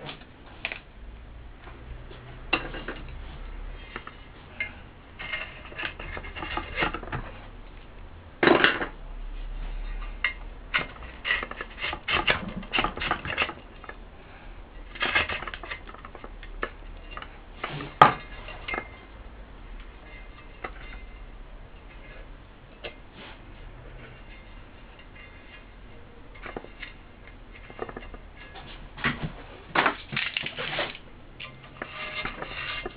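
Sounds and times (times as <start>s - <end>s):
scratchy scraping on metal rim: 1.9s - 7.8s, 8.6s - 32.9s.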